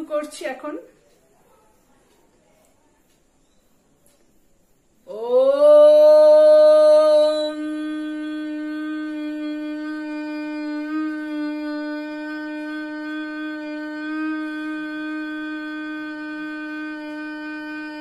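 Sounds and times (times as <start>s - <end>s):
woman chanting om: 0.0s - 3.1s, 4.7s - 18.0s.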